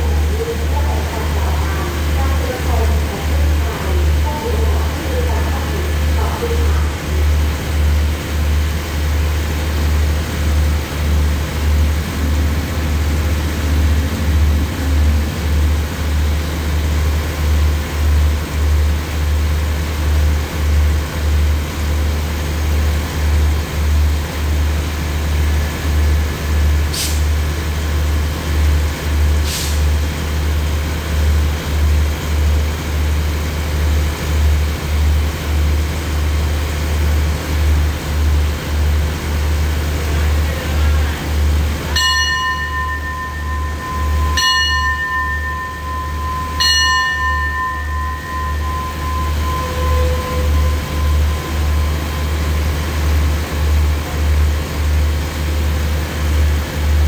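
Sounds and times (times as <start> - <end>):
diesel train idling hum: 0.0 - 57.0.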